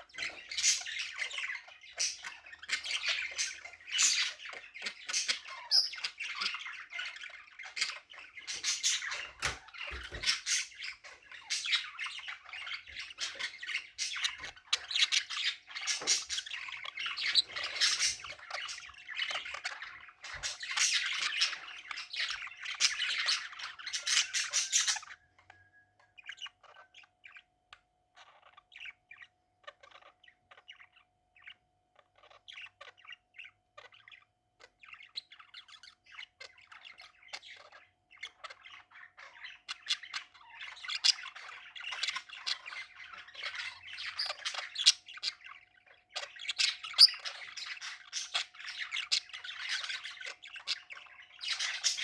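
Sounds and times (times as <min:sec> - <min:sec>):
budgerigars chattering: 0:00.0 - 0:27.5, 0:28.2 - 0:52.0.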